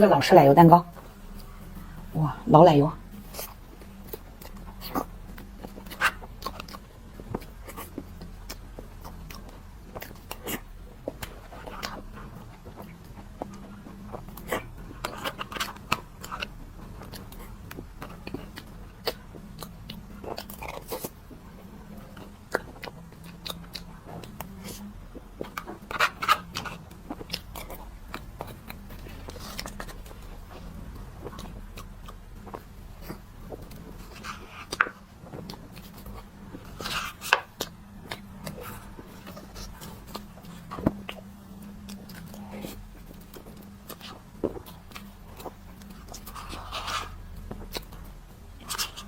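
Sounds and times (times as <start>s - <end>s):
faint low hum: 0.0s - 49.0s
person chewing and smacking: 0.9s - 2.1s, 3.0s - 49.0s.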